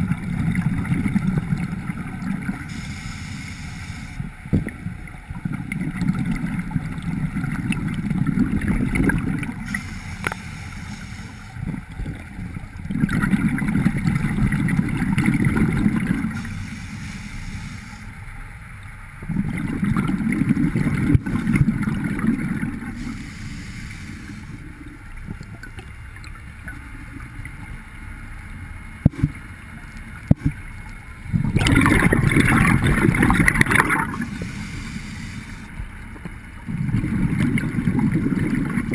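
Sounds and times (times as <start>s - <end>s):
underwater exhaled bubbles rumbling: 0.0s - 18.0s, 19.2s - 27.8s, 30.1s - 38.9s.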